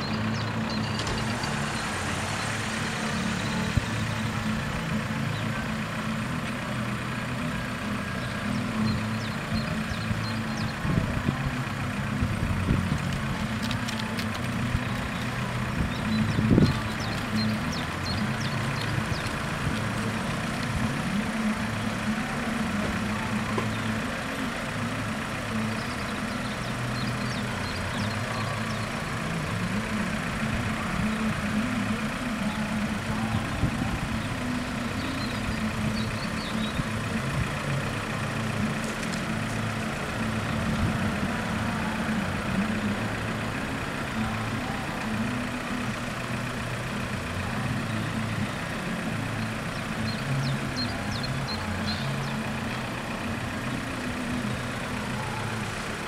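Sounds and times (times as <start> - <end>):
car engines idling: 0.0 - 56.0.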